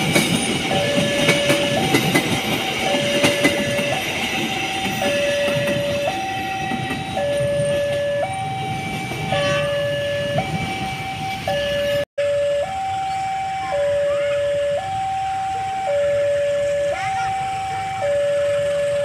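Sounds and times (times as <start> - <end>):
passing train rumble: 0.0 - 19.0
level crossing alarm chime: 0.2 - 19.0.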